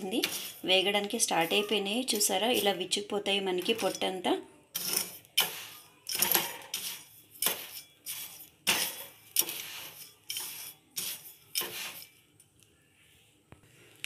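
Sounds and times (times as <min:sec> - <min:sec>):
ladle scraping chickpeas in salt: 0:00.0 - 0:04.2, 0:04.8 - 0:12.3.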